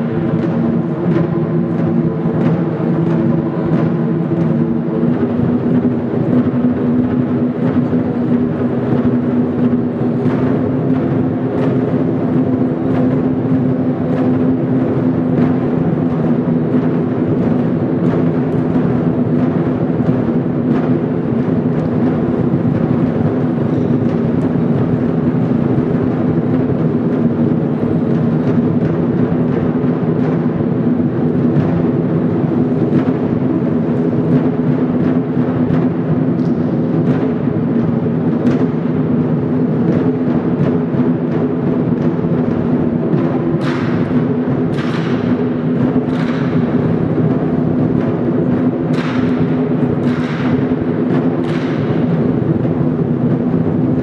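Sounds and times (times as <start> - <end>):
large drum pounding: 0.0 - 54.0.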